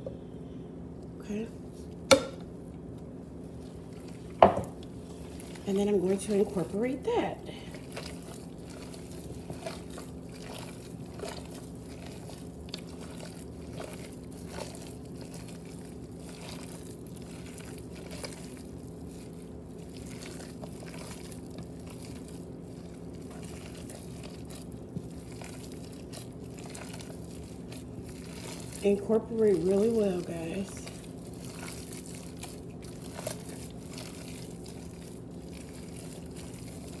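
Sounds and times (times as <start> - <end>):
steady low hum: 0.0 - 37.0
wet squelches of kneading meat: 1.3 - 37.0.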